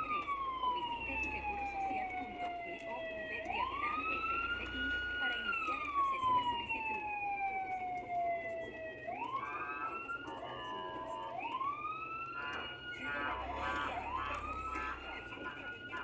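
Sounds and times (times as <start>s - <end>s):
ambulance sirens wailing: 0.0s - 16.0s.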